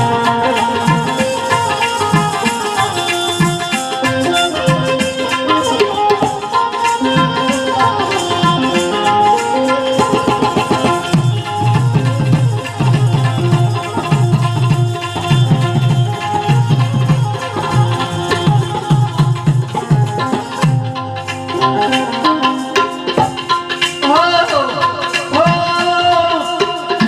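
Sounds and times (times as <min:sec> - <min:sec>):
hand drums: 0:00.0 - 0:27.0
sustained melodic instrument: 0:00.0 - 0:27.0.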